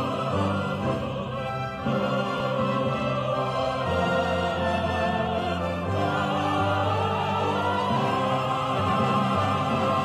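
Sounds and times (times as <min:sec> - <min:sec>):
operatic singing voice: 0:00.0 - 0:10.0
symphony orchestra playing: 0:00.0 - 0:10.0.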